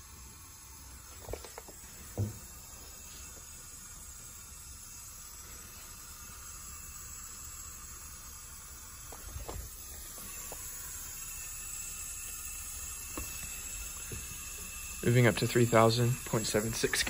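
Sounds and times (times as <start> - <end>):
water hissing through tubing: 0.0 - 17.0.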